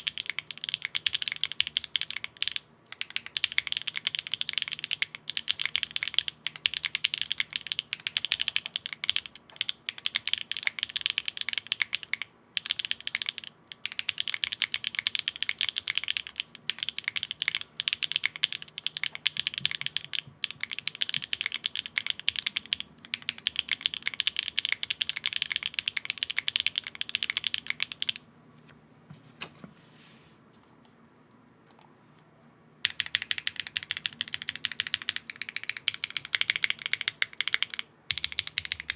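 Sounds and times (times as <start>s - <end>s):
mechanical keyboard typing: 0.0s - 28.2s, 32.8s - 38.9s.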